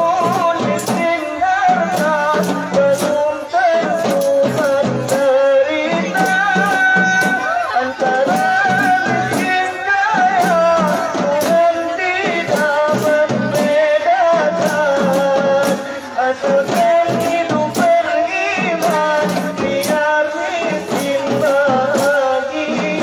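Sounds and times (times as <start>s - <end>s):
frame drums beating: 0.0s - 23.0s
men singing: 0.0s - 23.0s.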